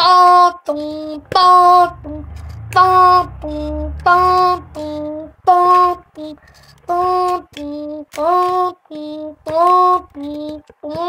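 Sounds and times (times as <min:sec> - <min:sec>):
high voice singing: 0:00.0 - 0:11.0.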